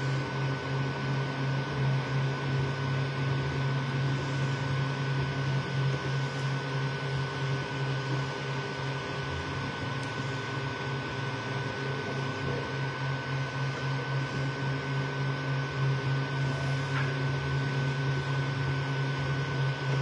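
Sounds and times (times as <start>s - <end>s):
cooling fans whirring: 0.0s - 20.0s.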